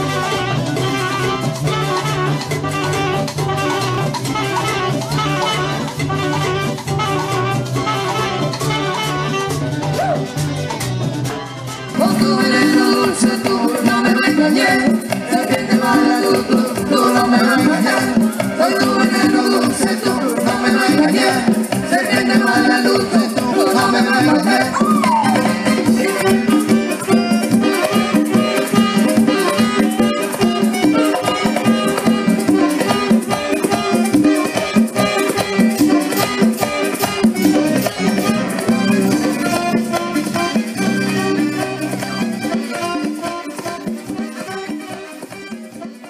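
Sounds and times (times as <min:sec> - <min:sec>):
congas: 0:00.0 - 0:46.0
keyboard: 0:00.0 - 0:46.0
saxophone: 0:00.0 - 0:46.0
steady percussion rhythm: 0:00.0 - 0:46.0.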